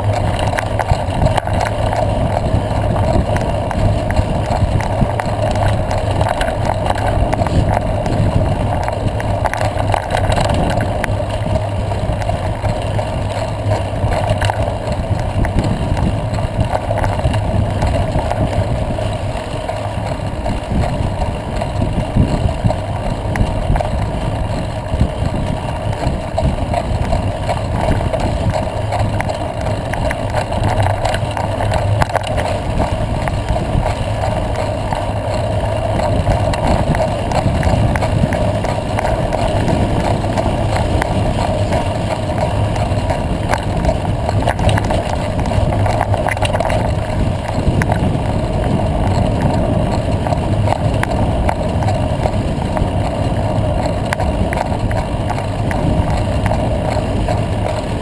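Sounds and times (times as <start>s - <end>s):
bike tyres rolling on dirt: 0.0s - 58.0s
wind on microphone: 0.0s - 58.0s.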